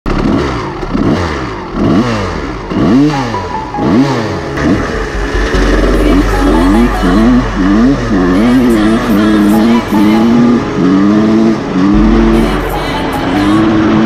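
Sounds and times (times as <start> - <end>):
dirt bike engine revving: 0.1 - 14.0.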